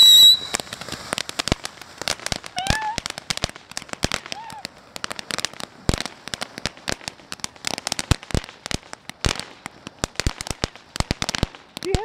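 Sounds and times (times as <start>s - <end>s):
crackling pops: 0.0s - 12.0s
fountain firework hissing: 0.0s - 12.0s.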